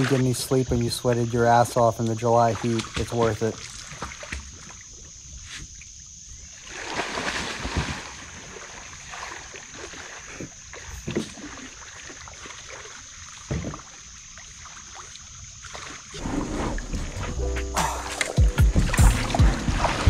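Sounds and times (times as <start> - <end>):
river water splashing: 0.0 - 20.0.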